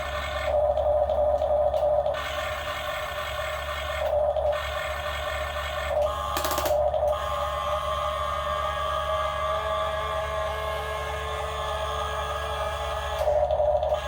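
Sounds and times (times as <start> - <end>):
small electric motors whirring: 0.0 - 14.0.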